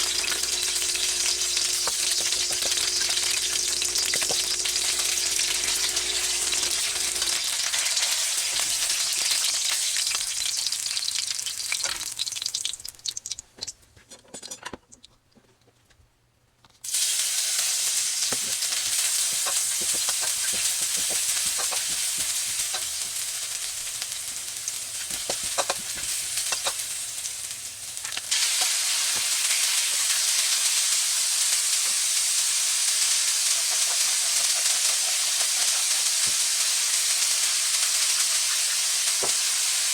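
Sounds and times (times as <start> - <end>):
chicken sizzling in hot oil: 0.0 - 13.5, 16.8 - 39.9.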